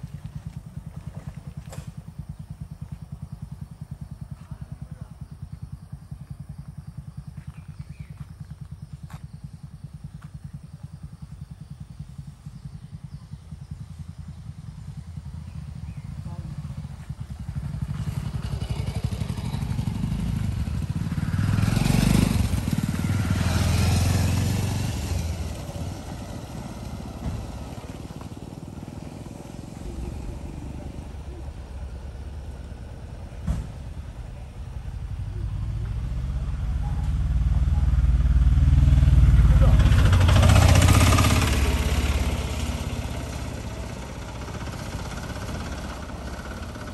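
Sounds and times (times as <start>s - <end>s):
vehicle engine idling: 0.0s - 46.9s.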